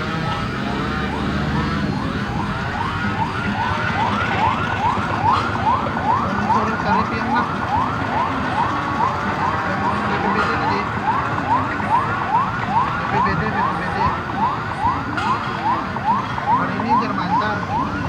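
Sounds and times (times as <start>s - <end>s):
siren yelping: 0.0s - 18.0s.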